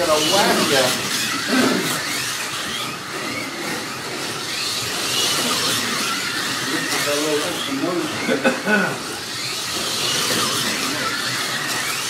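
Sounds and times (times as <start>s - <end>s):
slot car motors whirring: 0.0s - 12.0s.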